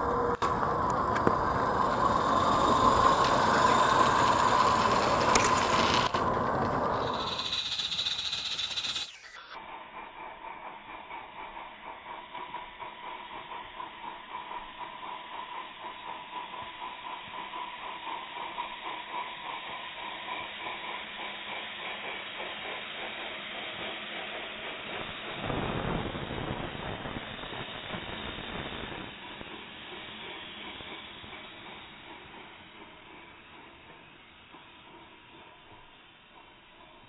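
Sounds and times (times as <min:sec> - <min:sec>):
steam locomotive chuffing: 0:00.0 - 0:37.0.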